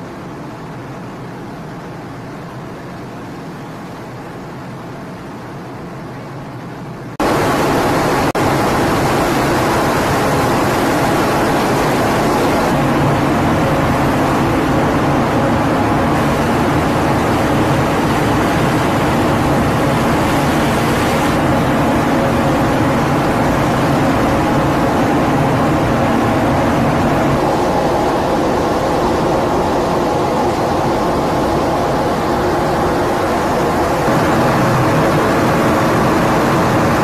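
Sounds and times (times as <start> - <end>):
hiss of wind and water: 0.0 - 37.0
ship rumbling: 0.0 - 37.0
steady tonal hum: 7.2 - 37.0.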